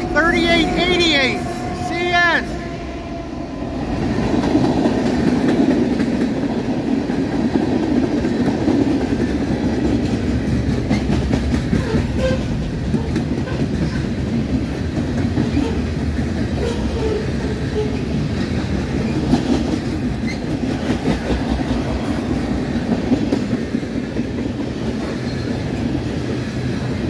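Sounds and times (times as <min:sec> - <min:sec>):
train wheels rumbling on rail: 0:00.0 - 0:27.0
wheels clacking over rail joints: 0:04.2 - 0:27.0.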